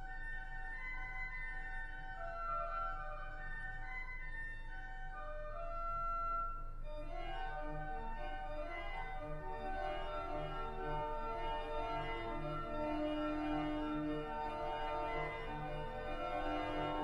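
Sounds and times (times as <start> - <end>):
church organ playing: 0.0 - 17.0.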